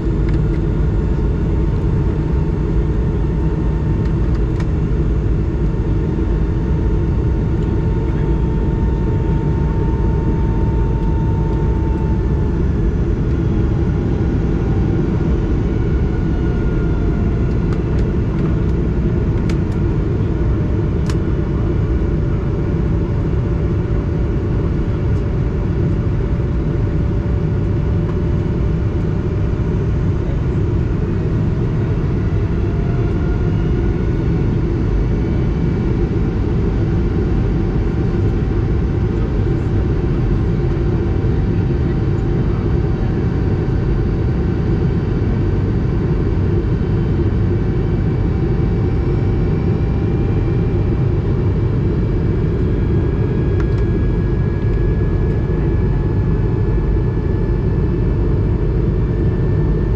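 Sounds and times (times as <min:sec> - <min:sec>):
jet engine roar in cabin: 0:00.0 - 0:59.9.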